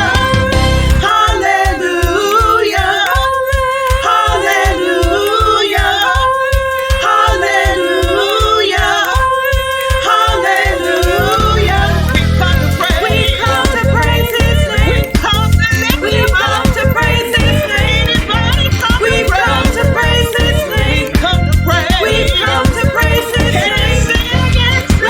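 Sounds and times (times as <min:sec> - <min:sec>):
steady low beat: 0:00.0 - 0:25.0
voices singing gospel: 0:00.0 - 0:25.0.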